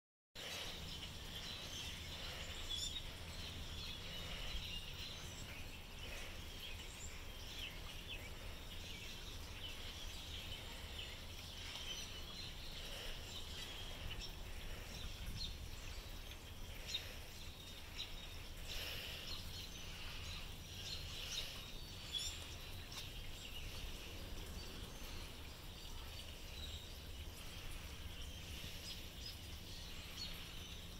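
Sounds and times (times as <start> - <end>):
low background rumble: 0.4 - 30.9.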